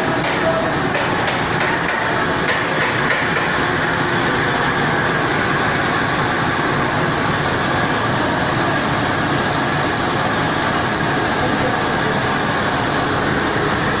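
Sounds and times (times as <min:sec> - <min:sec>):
boiler burner and blower hum: 0:00.0 - 0:14.0.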